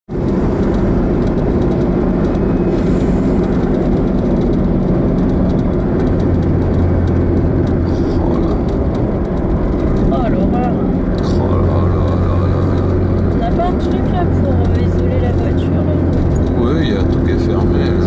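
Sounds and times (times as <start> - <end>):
deep low hum: 0.1 - 18.0
engine and tyre drone inside car: 0.1 - 18.0.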